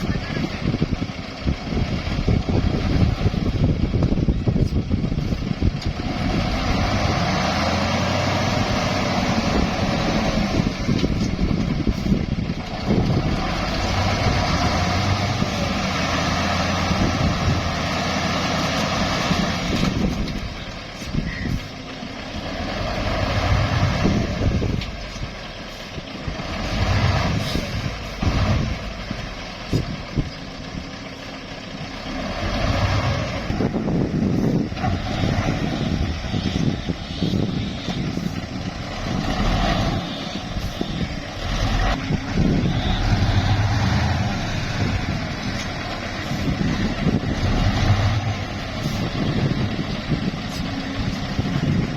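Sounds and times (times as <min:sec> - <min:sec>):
diesel truck engine revving: 0:00.0 - 0:51.9.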